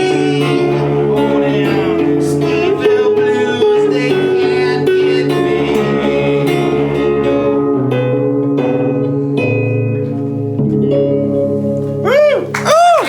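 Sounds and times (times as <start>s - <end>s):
guitar playing: 0.0s - 13.0s.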